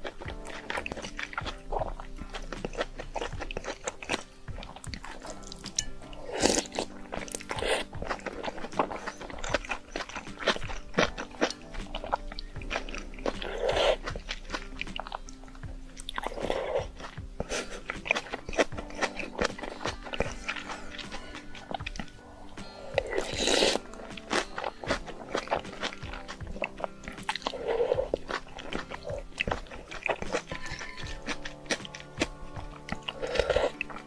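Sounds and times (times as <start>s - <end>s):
quiet background music: 0.0s - 34.0s
wet chewing and crunching: 0.0s - 34.0s.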